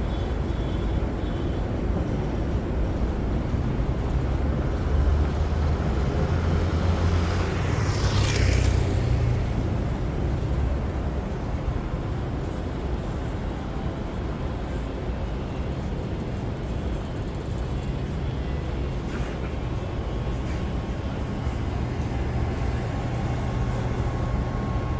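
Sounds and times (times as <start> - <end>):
low traffic rumble: 0.0 - 24.9.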